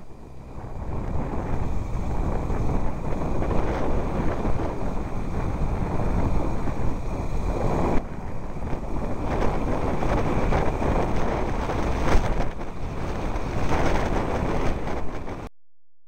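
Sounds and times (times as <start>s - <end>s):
vehicle engine running: 0.0s - 15.5s
wind buffeting microphone: 0.0s - 15.5s.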